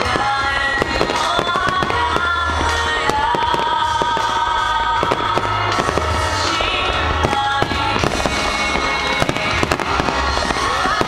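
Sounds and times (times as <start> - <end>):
fireworks bangs and crackles: 0.0 - 11.0
music on loudspeakers: 0.0 - 11.0.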